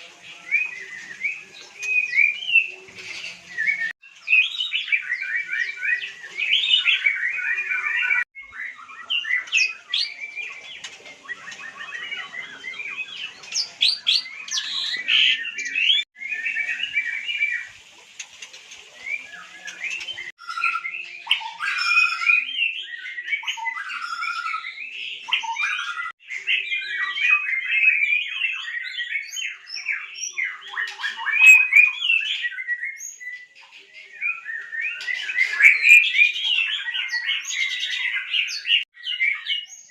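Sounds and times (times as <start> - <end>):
bird singing chirps and whistles: 0.0 - 17.8, 18.9 - 39.9.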